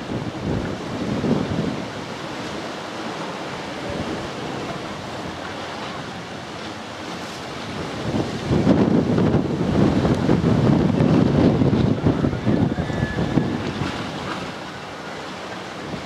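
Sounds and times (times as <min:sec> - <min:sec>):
jet airliner roaring: 0:00.0 - 0:16.0
wind buffeting microphone: 0:00.0 - 0:16.0.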